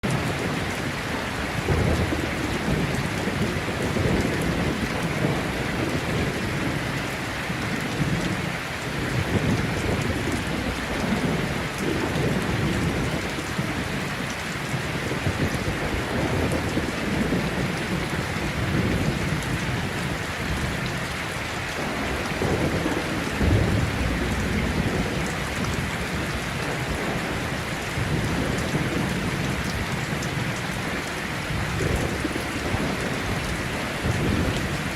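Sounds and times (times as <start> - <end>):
rolling thunder: 0.0 - 20.8, 21.5 - 34.9
heavy rain hissing: 0.0 - 34.9.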